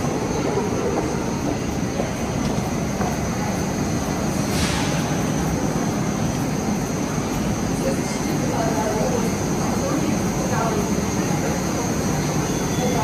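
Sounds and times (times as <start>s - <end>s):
metro rumble: 0.0s - 13.0s.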